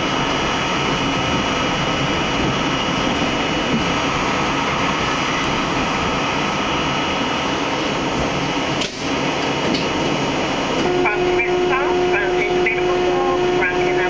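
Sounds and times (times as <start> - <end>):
subway train wheels on rails: 0.0 - 14.0.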